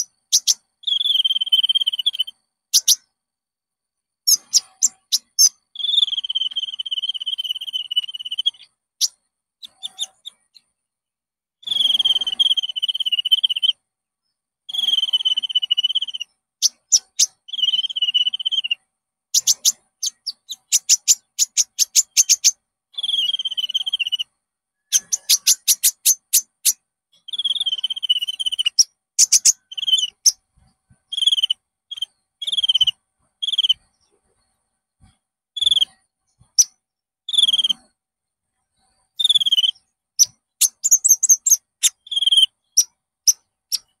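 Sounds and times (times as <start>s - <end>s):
buzzy rasping bird calls: 0.0s - 3.1s, 4.3s - 10.7s, 11.6s - 13.8s, 14.7s - 30.4s, 31.1s - 34.1s, 35.0s - 37.9s, 38.8s - 44.0s
rapid high ticking bird notes: 0.0s - 3.2s, 4.3s - 10.8s, 11.6s - 13.8s, 14.7s - 34.6s, 38.6s - 44.0s.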